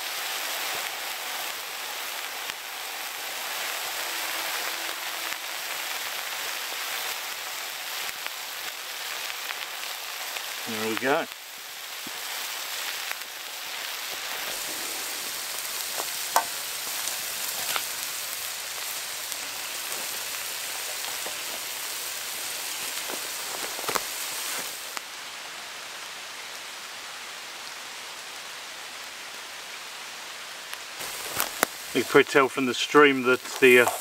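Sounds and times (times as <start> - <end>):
meat sizzling on a griddle: 0.0 - 34.0
rain falling on a stream: 0.0 - 34.0.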